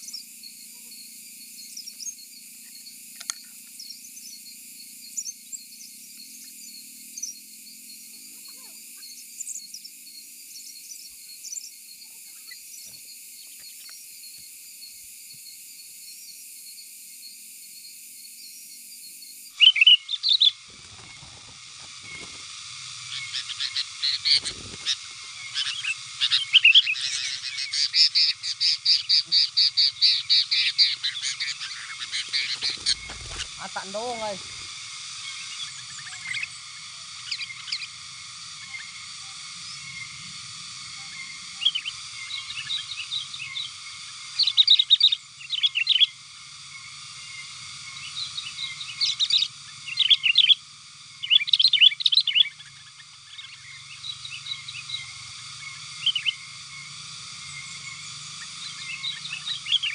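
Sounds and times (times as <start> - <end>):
birds chirping: 0.0 - 16.8, 18.3 - 59.9.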